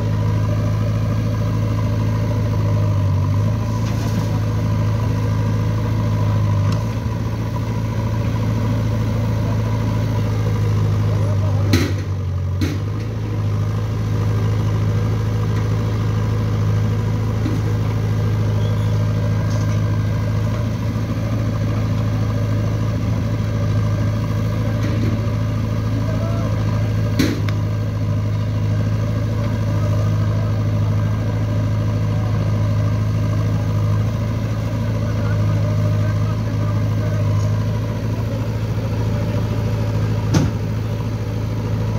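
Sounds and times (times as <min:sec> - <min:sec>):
diesel engines droning: 0:00.0 - 0:41.9.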